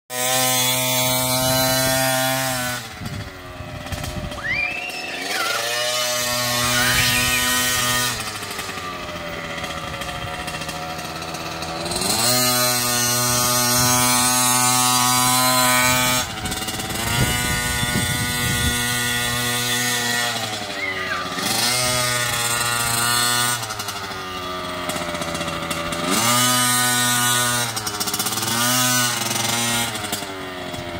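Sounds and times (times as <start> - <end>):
dirt bike engine revving: 0.1 - 30.9.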